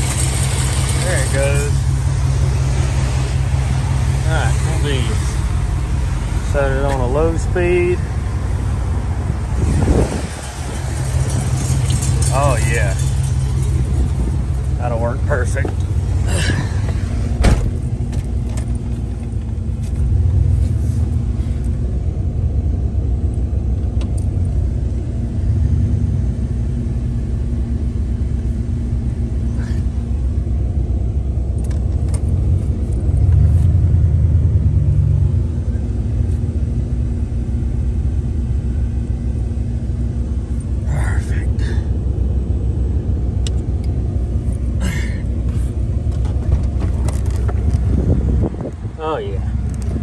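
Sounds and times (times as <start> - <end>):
pickup engine rumbling: 0.0 - 50.0.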